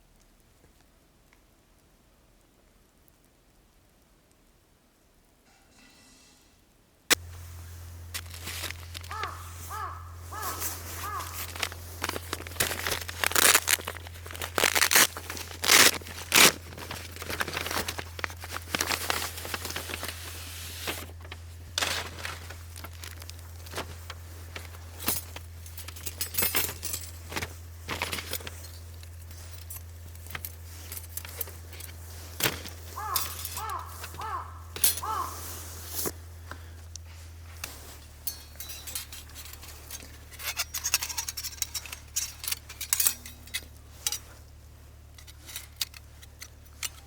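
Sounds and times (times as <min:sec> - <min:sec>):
low hum: 0:07.1 - 0:47.0
rustling handling noises: 0:07.1 - 0:47.0.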